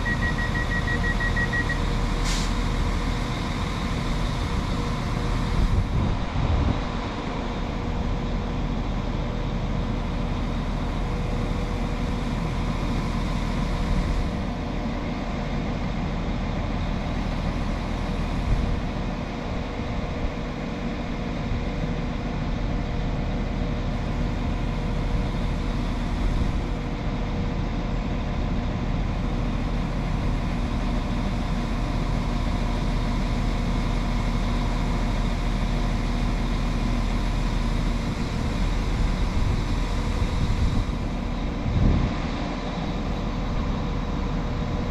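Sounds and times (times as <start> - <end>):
train diesel engines idling: 0.0 - 44.9.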